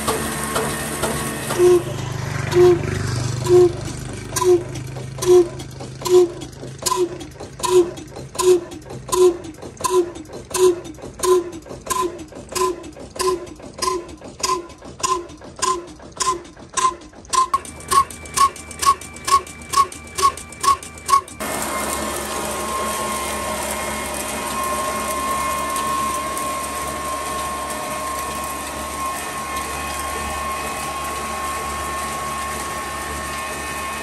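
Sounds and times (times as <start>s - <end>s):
diesel engine exhaust beats: 0.0s - 34.0s.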